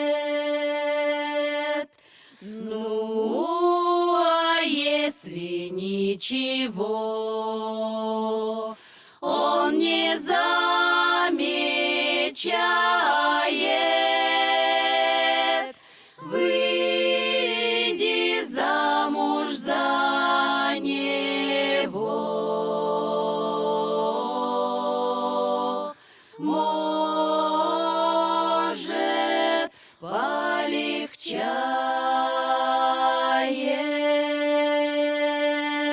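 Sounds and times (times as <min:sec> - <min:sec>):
a cappella vocal ensemble singing: 0:00.0 - 0:35.9.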